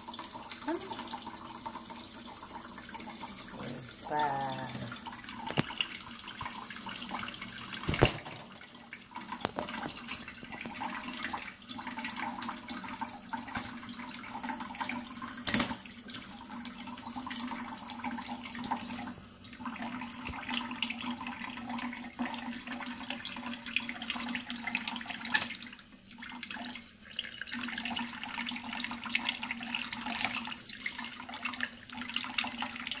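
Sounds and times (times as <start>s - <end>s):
faucet running thin stream: 0.0s - 33.0s.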